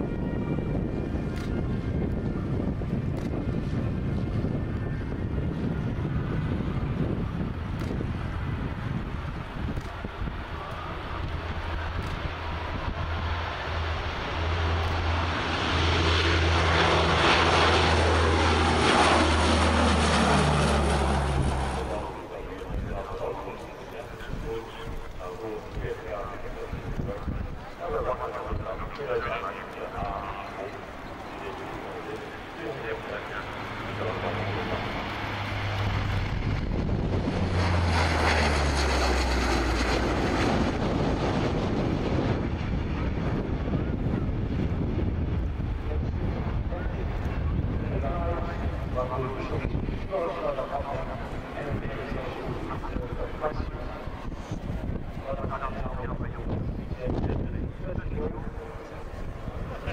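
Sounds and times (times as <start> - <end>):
propeller aircraft passing overhead: 0.0 - 59.9
wind rumbling on microphone: 0.0 - 59.9.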